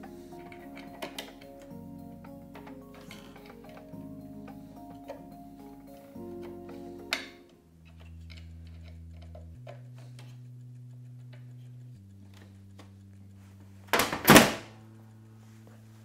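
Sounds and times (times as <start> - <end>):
background music with held chords: 0.0 - 16.0.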